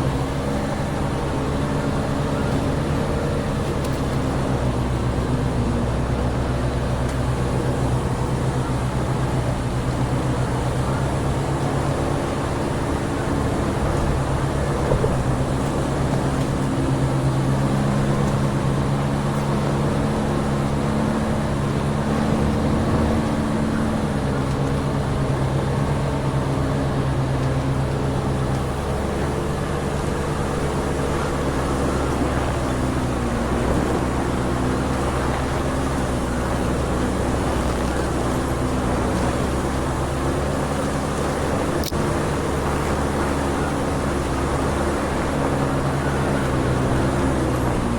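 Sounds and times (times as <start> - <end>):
road noise: 0.0 - 47.9
truck diesel engine running: 0.0 - 47.9.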